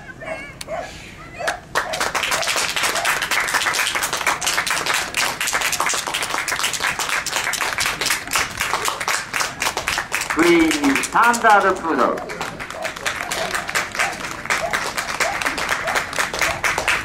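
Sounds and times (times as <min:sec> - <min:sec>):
audience applauding: 0:01.7 - 0:17.0.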